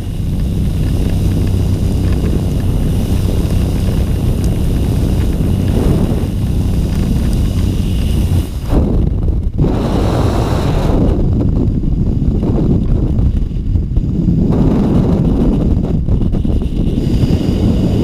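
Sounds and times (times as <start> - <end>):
aircraft engine running: 0.0 - 18.0
wind buffeting microphone: 0.0 - 18.0.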